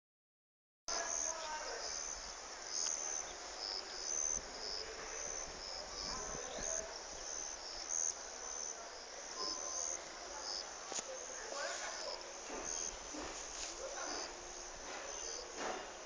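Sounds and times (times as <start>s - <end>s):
faint background noise: 0.9s - 16.0s
insects chirping: 0.9s - 16.0s.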